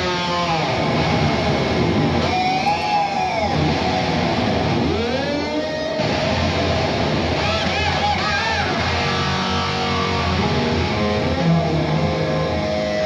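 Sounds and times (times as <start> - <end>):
distorted lead electric guitar bending: 0.0 - 13.0
heavy metal band playing: 0.0 - 13.0.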